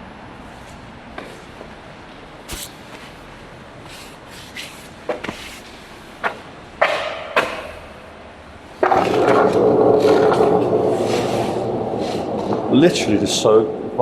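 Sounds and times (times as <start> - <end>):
skateboard wheels rolling on wet pavement: 2.5 - 14.0.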